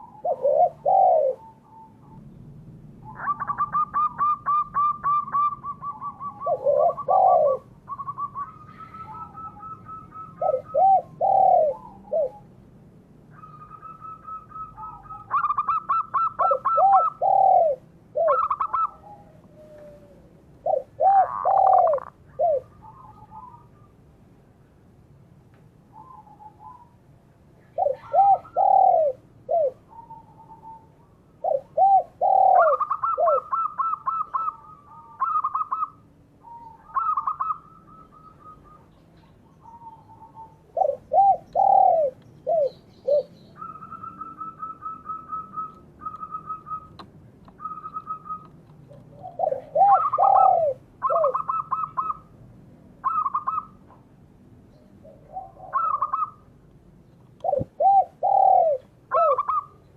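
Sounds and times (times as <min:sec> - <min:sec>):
doves cooing: 0:00.0 - 0:02.4, 0:03.0 - 0:12.6, 0:13.3 - 0:24.0, 0:27.6 - 0:54.1, 0:55.0 - 0:56.6, 0:57.3 - 0:59.9.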